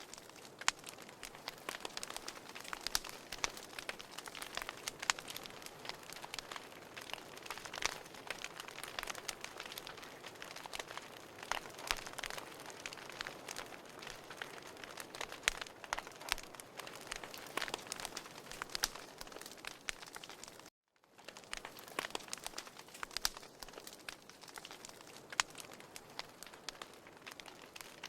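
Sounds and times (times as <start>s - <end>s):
firewood crackling and popping: 0.0s - 28.0s.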